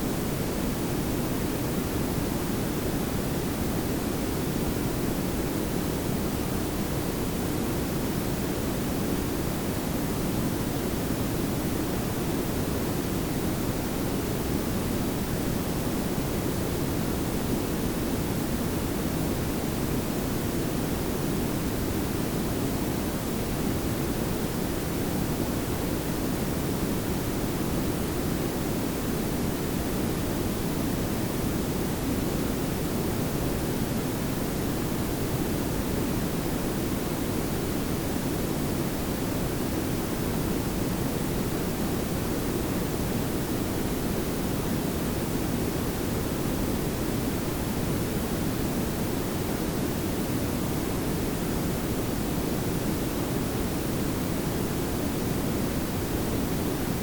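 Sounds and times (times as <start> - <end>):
steady noise hiss and rumble: 0.0 - 57.0.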